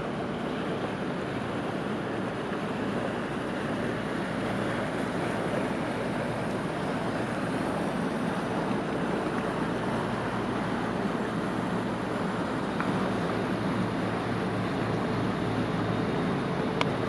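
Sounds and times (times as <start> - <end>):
low engine drone: 0.0 - 17.0
water rushing: 0.0 - 17.0
wind: 0.0 - 17.0.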